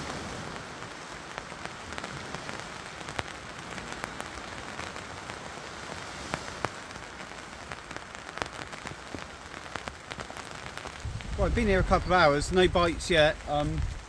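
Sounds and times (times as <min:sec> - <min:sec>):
raindrops tapping sharply: 0:00.0 - 0:14.0
steady rain falling: 0:00.0 - 0:14.0.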